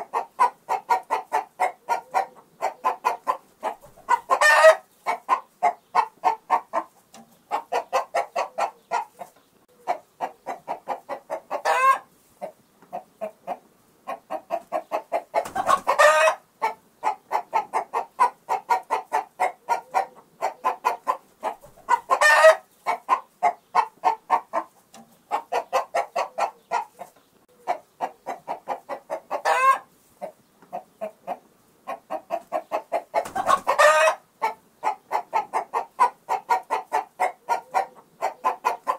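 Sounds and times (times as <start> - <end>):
chicken squawk: 0.0 - 6.9, 7.5 - 24.7, 25.3 - 38.9
chicken clucking: 0.0 - 38.9.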